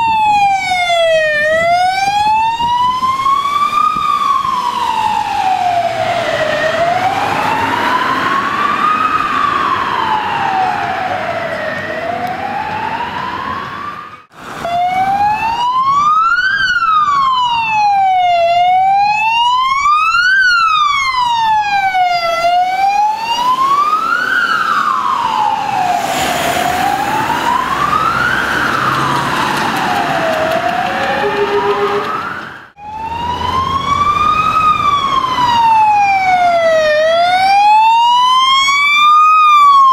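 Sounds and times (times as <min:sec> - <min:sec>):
wailing electronic sirens: 0:00.0 - 0:39.9.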